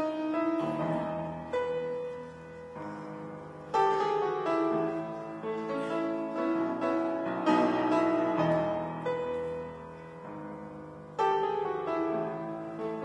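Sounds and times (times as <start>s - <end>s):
piano slow sustained chords: 0.0s - 13.0s.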